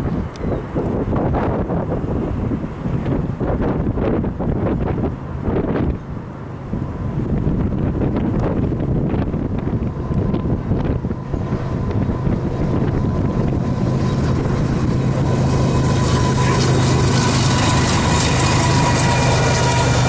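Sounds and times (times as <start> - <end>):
locomotive engine drone: 0.0 - 20.0
wind buffeting microphone: 0.0 - 20.0.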